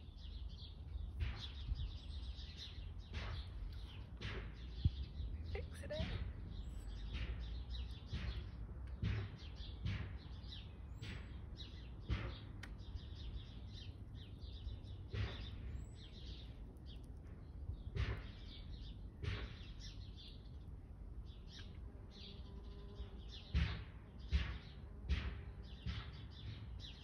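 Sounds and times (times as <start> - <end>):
wind rumble on microphone: 0.0 - 21.8
small birds chirping: 0.0 - 27.0.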